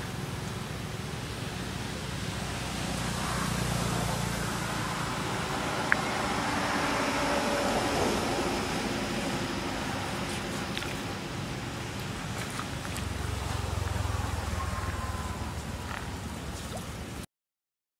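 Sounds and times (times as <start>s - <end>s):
motor vehicle passing: 0.0s - 17.2s.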